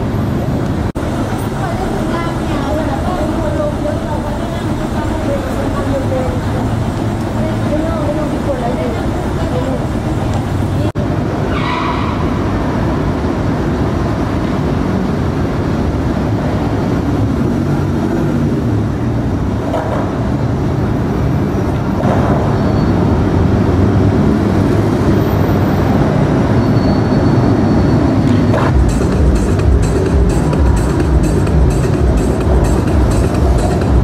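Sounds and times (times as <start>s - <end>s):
city street traffic rumble: 0.0s - 34.0s.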